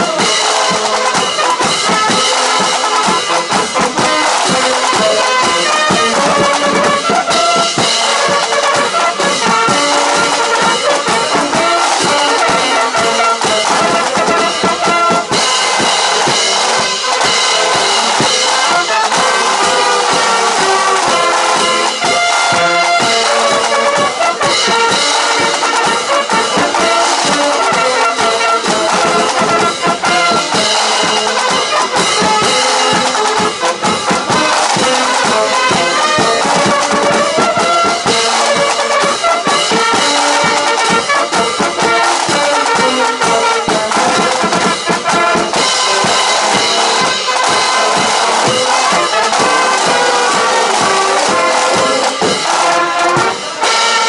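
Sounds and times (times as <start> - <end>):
brass instruments: 0.0 - 54.0
marching drums: 0.0 - 54.0.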